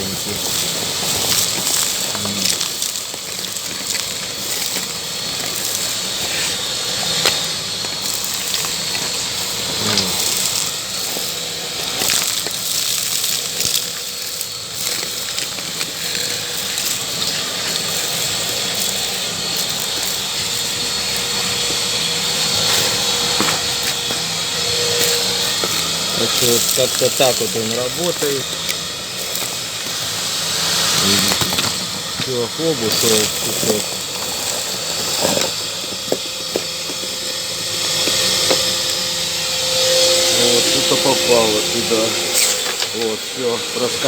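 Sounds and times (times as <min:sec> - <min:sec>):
debris rattling up a hose: 0:00.0 - 0:44.0
vacuum cleaner running: 0:00.0 - 0:44.0.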